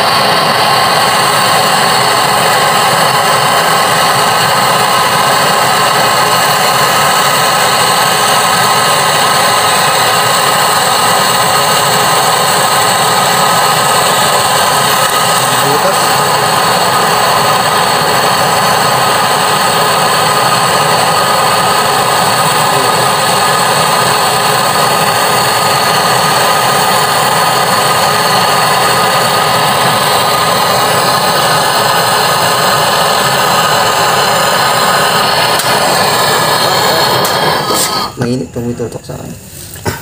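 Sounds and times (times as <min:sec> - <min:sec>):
torch flame hissing: 0:00.0 - 0:40.0.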